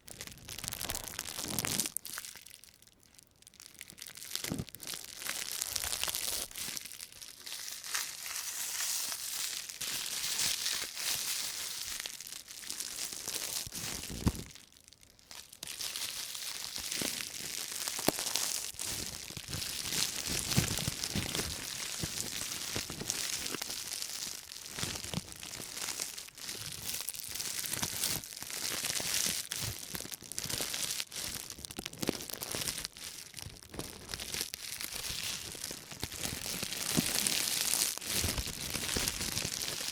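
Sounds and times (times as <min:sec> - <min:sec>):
plastic bag crinkling: 0:00.0 - 0:39.9.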